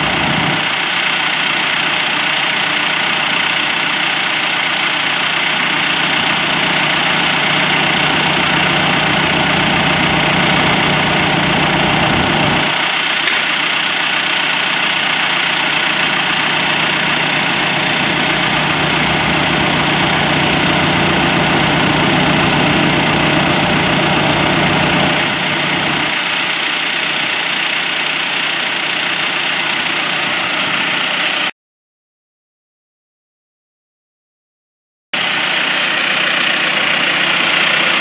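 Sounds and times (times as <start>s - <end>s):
tractor diesel engine idling: 0.0s - 31.5s, 35.2s - 38.0s.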